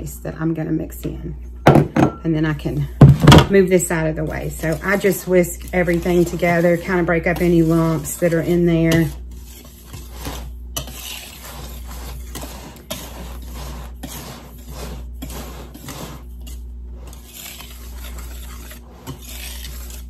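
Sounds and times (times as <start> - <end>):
wire whisk scraping a bowl: 3.5 - 20.0.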